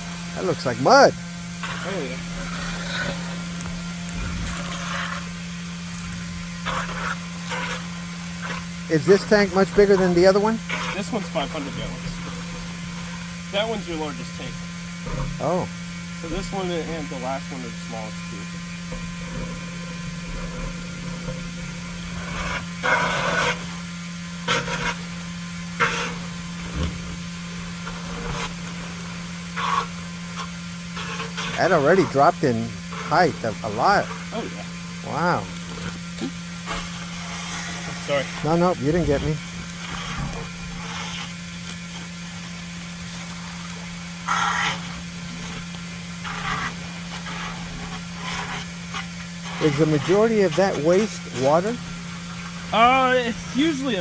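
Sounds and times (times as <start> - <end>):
vacuum pump droning: 0.0 - 54.0.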